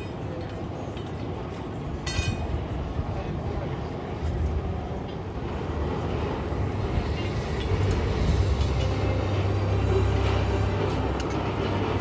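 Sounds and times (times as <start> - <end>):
low rumble of large vehicle: 0.0 - 12.0.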